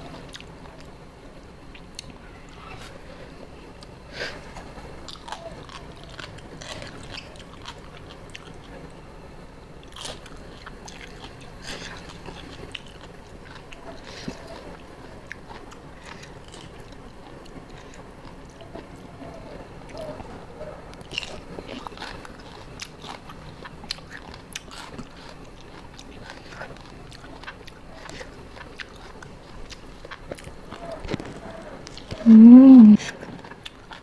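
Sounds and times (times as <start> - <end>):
person chewing crunchy food: 0.0 - 0.9, 3.8 - 9.0, 9.8 - 32.3, 33.0 - 34.0.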